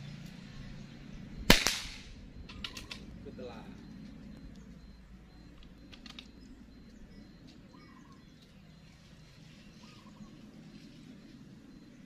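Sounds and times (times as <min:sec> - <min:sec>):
faint outdoor ambience: 0:00.0 - 0:12.0
bird chirps: 0:02.1 - 0:12.0.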